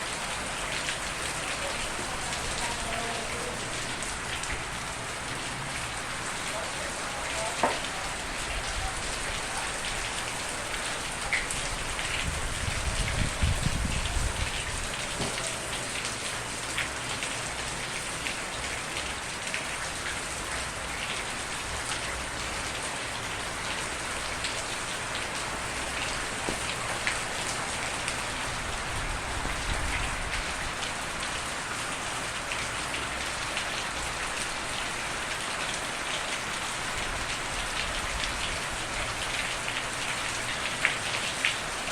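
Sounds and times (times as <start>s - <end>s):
steady rain: 0.0s - 41.9s
raindrops tapping on a surface: 0.4s - 31.4s, 32.2s - 41.9s.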